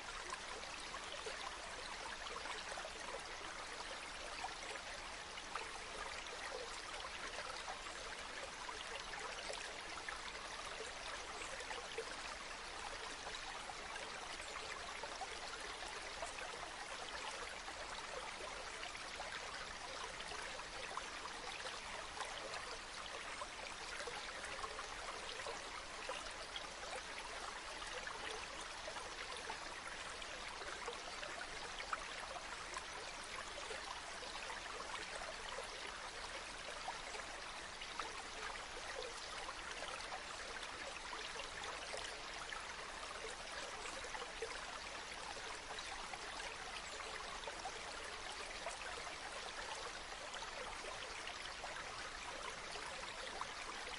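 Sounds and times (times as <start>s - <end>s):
stream water running: 0.0s - 53.9s.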